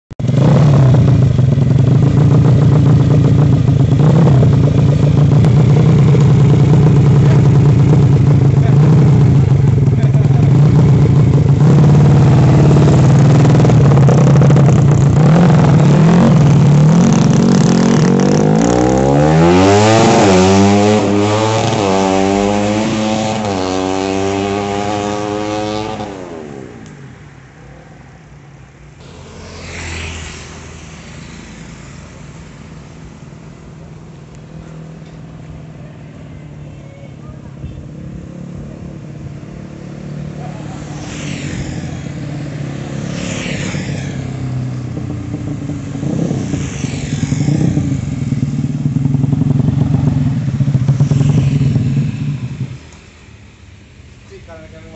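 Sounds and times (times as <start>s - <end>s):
vehicle engine revving: 0.2s - 27.3s, 29.0s - 35.9s, 37.5s - 53.5s.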